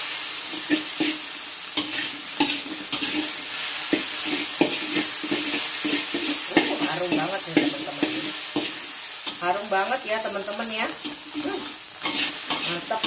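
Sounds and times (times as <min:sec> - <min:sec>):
sizzle of frying: 0:00.0 - 0:13.0
spatula scraping a wok: 0:00.2 - 0:13.0.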